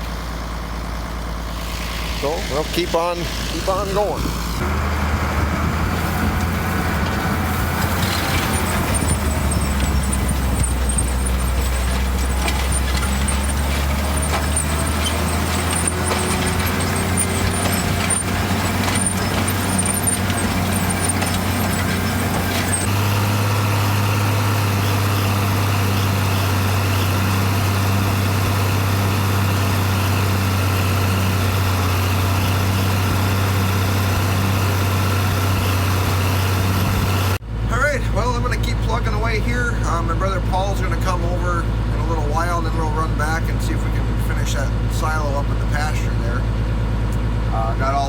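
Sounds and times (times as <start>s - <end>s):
tractor engine droning: 0.0s - 48.0s.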